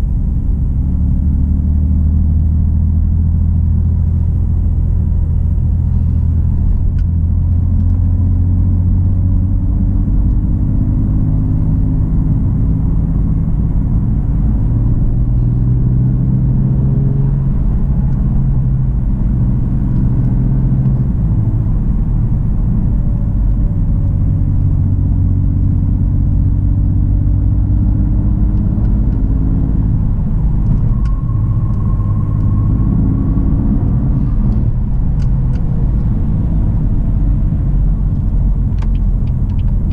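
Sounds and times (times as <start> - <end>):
car engine cruising: 0.0 - 39.9.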